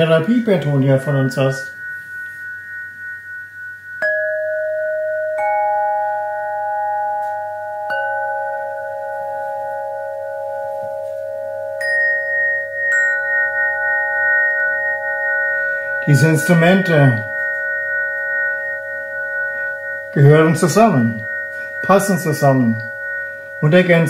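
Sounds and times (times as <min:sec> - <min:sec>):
crystal rods struck with mallet: 0:00.0 - 0:24.0.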